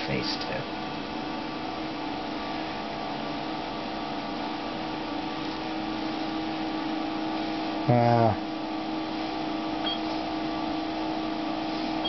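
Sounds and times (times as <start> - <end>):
fan-like hiss: 0.0 - 12.0
low electrical hum: 0.0 - 12.0.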